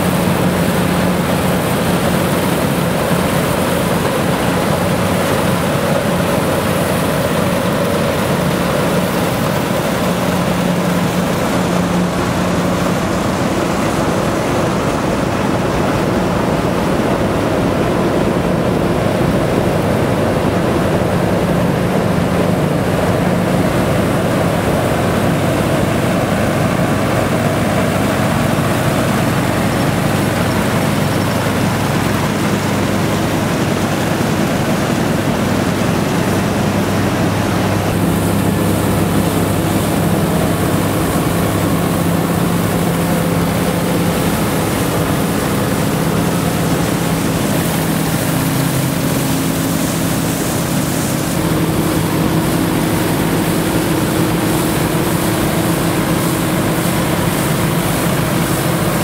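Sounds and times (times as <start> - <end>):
combine harvester threshing: 0.0 - 59.0
tractor engines running: 0.0 - 59.0.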